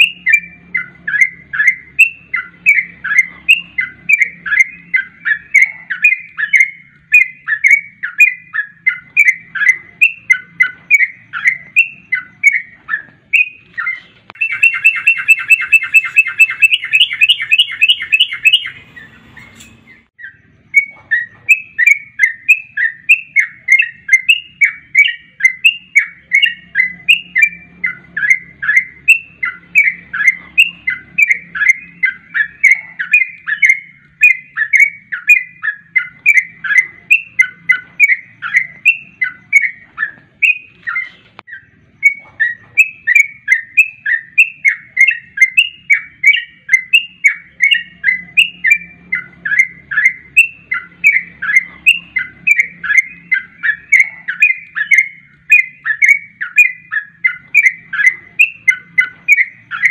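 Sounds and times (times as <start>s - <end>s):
bird chattering calls: 0.0s - 59.9s.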